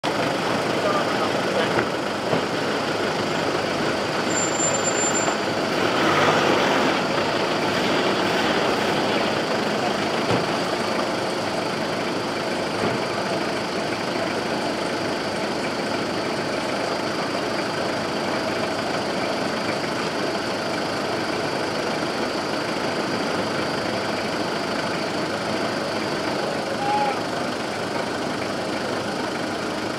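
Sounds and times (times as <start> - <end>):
engine drone: 0.0 - 29.9.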